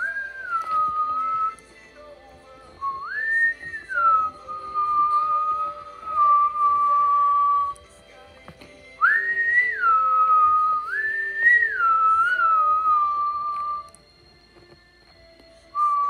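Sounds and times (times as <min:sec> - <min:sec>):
person whistling slow tune: 0:00.0 - 0:08.2, 0:08.9 - 0:16.0.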